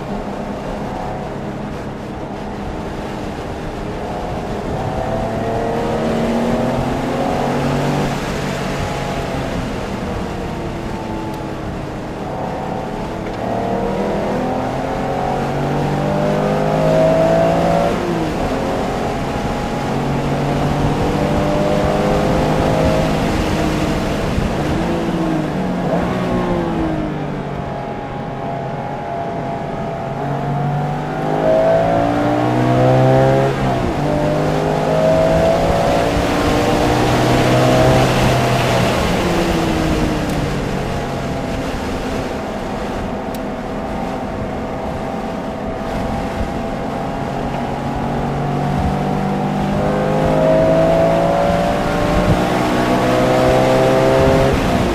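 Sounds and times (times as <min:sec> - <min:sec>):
car engine revving through gears: 0:00.0 - 0:54.9
wind and tyre noise: 0:00.0 - 0:54.9.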